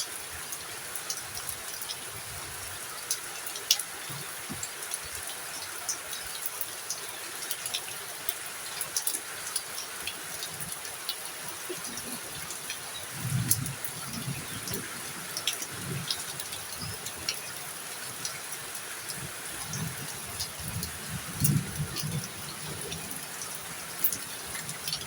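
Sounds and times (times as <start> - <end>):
heavy rain falling: 0.0 - 25.0
sharp raindrop ticks: 3.0 - 25.0.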